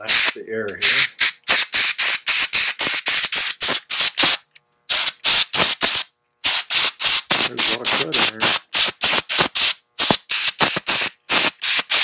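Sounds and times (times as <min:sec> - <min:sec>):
compressed air duster hissing: 0:00.0 - 0:12.0.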